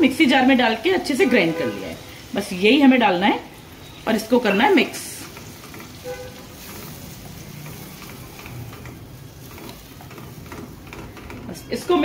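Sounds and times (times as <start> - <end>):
sauce sizzling in hot oil: 0.0 - 10.8.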